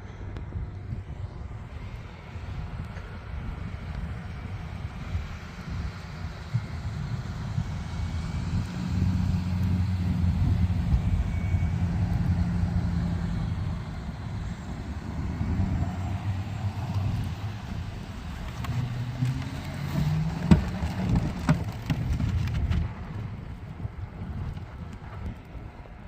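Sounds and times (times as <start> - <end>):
truck engine running: 0.1 - 26.0.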